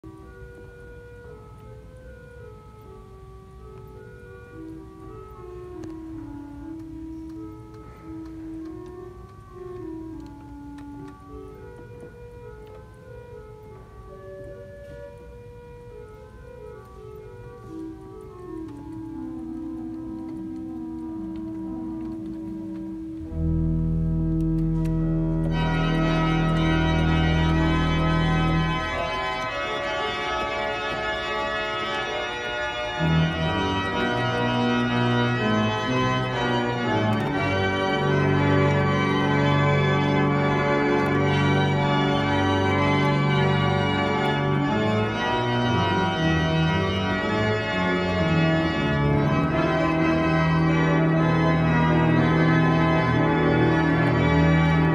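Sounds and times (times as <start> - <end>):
church organ playing chords: 0.0 - 54.9.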